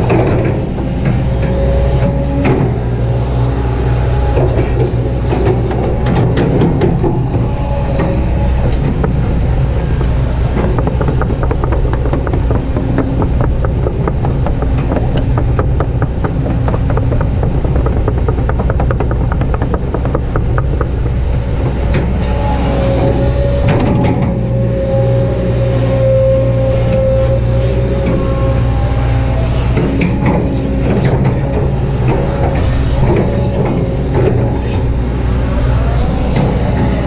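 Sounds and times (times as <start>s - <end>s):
excavator diesel engine running: 0.0s - 37.0s
rapid clicks and rattles: 4.2s - 37.0s.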